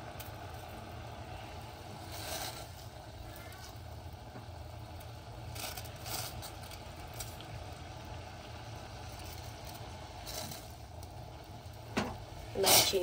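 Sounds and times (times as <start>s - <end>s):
water bubbling in a pan: 0.0s - 13.0s.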